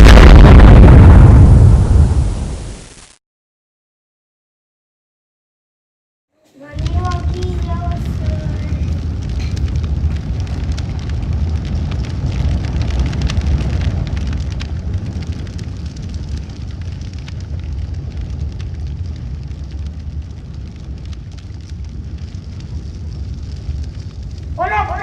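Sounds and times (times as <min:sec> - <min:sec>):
loud low rumble with crackling: 0:00.0 - 0:03.0, 0:06.6 - 0:25.0.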